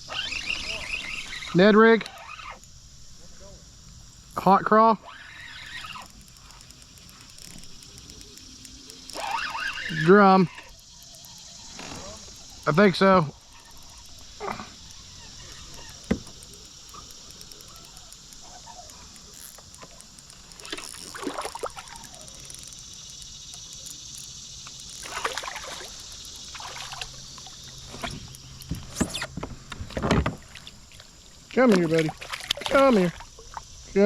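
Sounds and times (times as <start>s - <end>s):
insect buzzing: 0.0s - 34.0s
water splashing: 4.4s - 33.7s.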